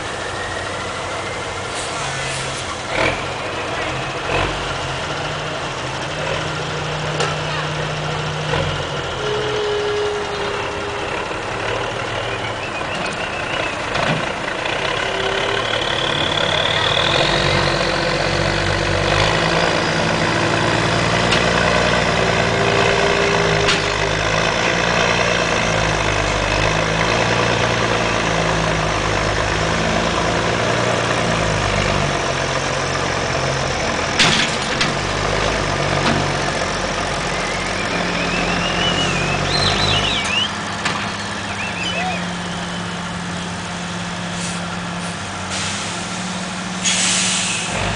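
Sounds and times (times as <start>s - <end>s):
diesel truck engine under load: 0.0s - 47.9s.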